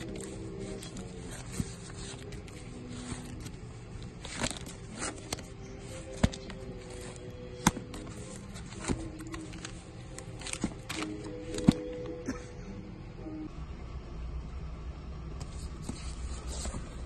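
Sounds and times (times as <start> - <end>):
plastic sleeves rustling: 0.0 - 12.2, 15.4 - 17.0
quiet music: 0.0 - 17.0.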